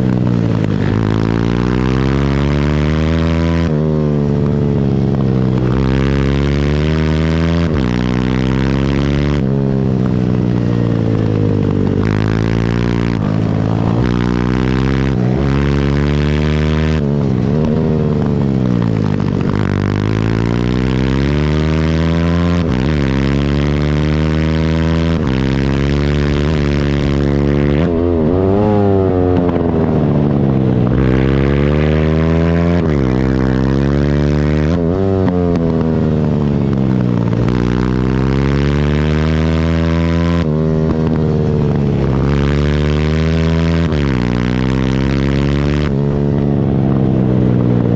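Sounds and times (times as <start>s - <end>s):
small motorbike engine revving: 0.0s - 47.9s.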